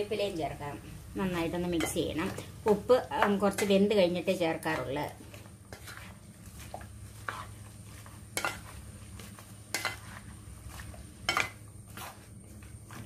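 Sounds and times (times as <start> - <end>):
spatula stirring wet food in pan: 0.1 - 13.0.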